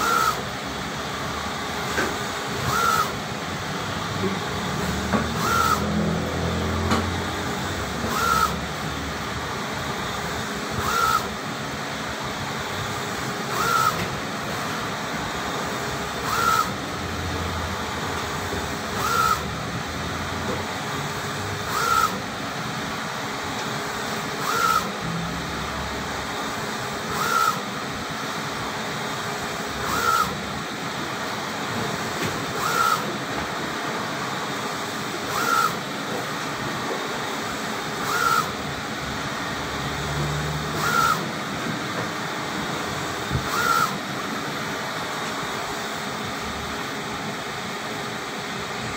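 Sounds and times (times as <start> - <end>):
printer fans and motors whirring: 0.0 - 48.9.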